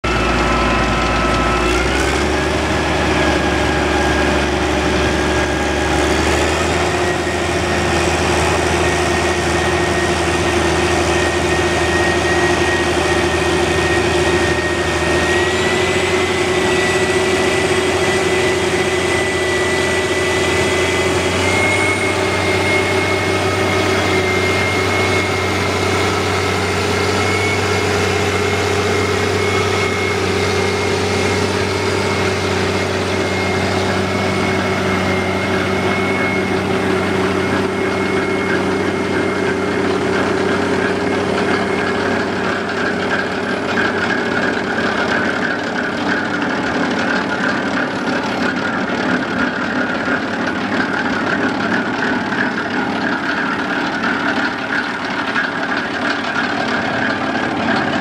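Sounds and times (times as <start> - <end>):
high machine whine: 0.0 - 58.0
trencher diesel engine under load: 0.0 - 58.0.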